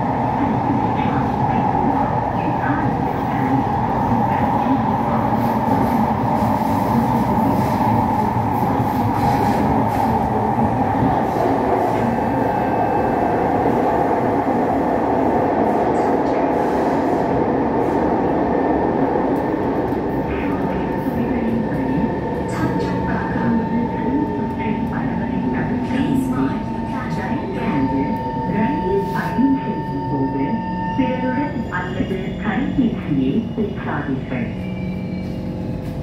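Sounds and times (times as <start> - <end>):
train wheels rumbling on rails: 0.0 - 30.6.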